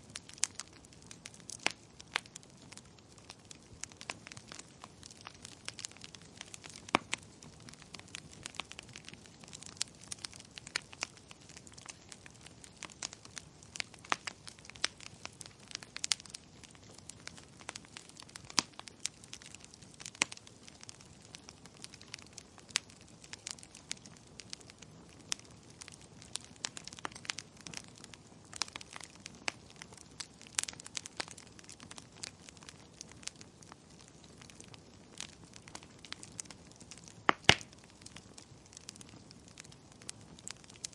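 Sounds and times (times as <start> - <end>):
burning logs crackling: 0.0 - 40.9
faint background hiss: 0.0 - 40.9.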